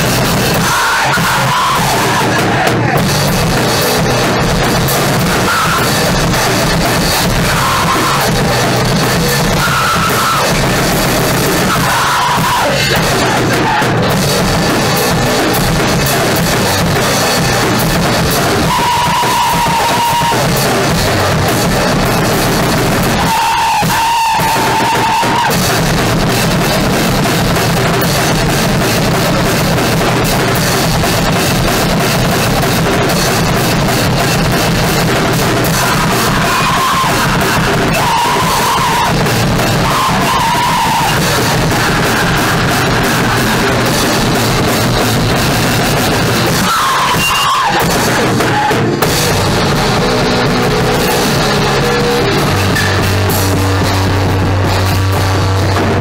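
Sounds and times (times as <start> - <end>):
distorted electric guitar: 0.0 - 56.0
drum kit: 0.0 - 56.0.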